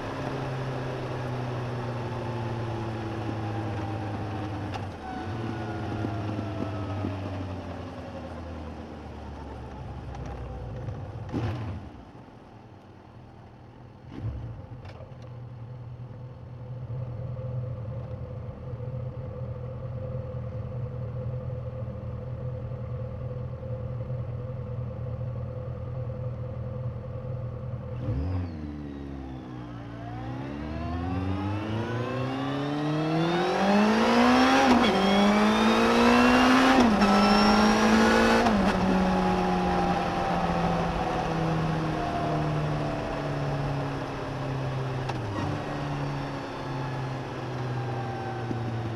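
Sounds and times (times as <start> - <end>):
motorcycle engine accelerating: 0.0 - 12.4, 13.9 - 48.9.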